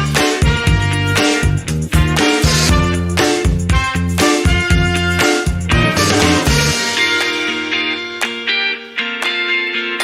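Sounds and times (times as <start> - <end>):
upbeat swing music: 0.0 - 10.0.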